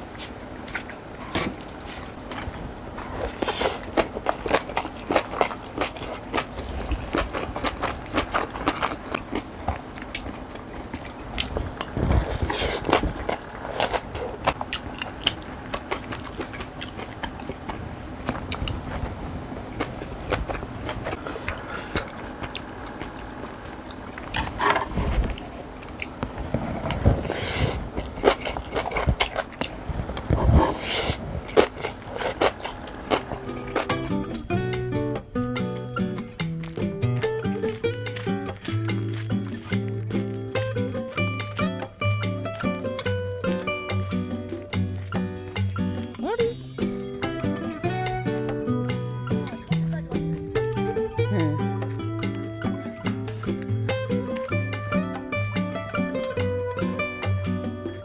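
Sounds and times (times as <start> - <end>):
close chewing with wet crunches: 0.0 - 58.0.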